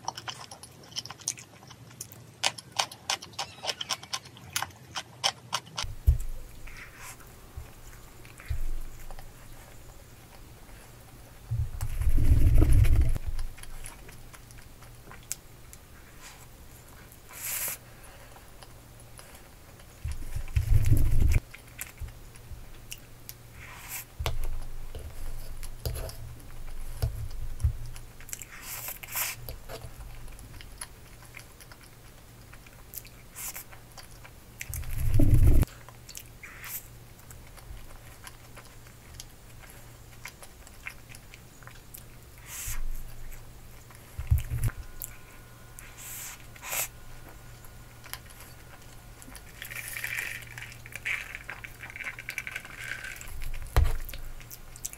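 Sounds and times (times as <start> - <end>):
person chewing: 0.0 - 54.9.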